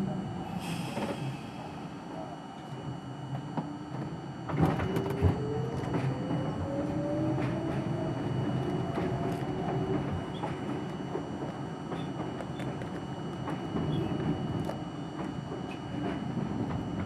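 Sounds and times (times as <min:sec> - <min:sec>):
subway train motors whining: 0:00.0 - 0:17.0.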